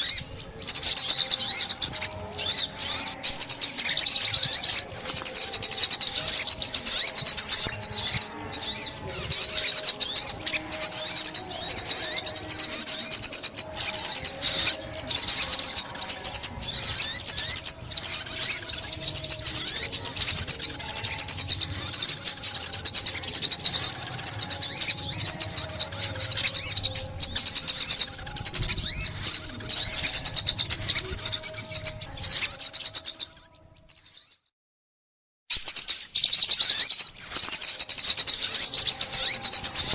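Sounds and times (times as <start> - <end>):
sunbird twittering: 0.0 - 34.5, 35.5 - 39.9.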